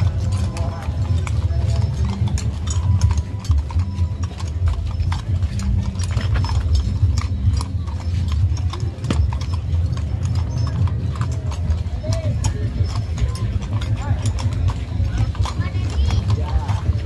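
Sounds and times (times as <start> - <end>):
horses' hooves clip-clopping: 0.0 - 17.0.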